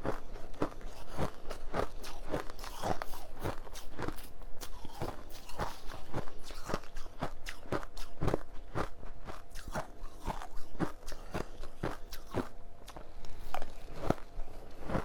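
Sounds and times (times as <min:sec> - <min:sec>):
person crunching ice: 0:00.3 - 0:15.0.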